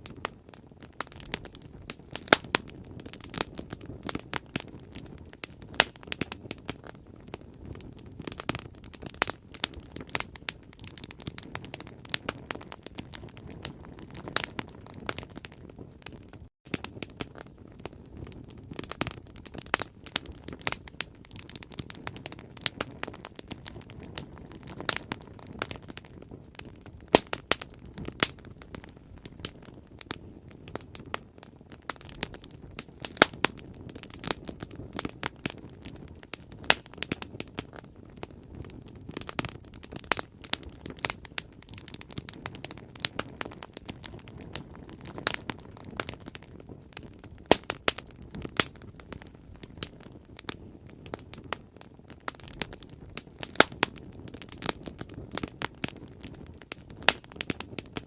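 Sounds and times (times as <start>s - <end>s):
burning wood popping and snapping: 0.0s - 58.0s
low rush of flames: 0.0s - 58.0s.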